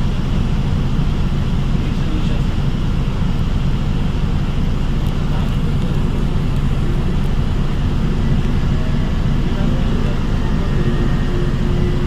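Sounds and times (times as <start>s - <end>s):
bus drive and road noise: 0.0s - 12.0s.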